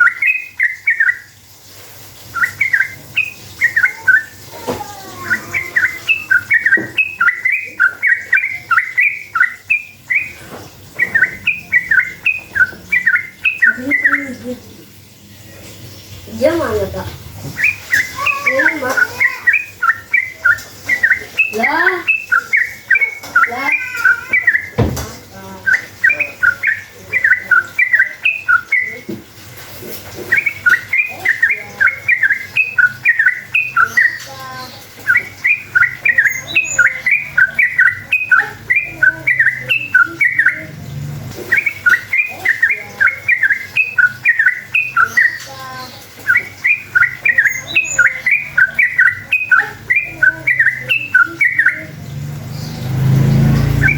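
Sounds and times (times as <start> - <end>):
bulbul singing chattering song: 0.0 - 53.9.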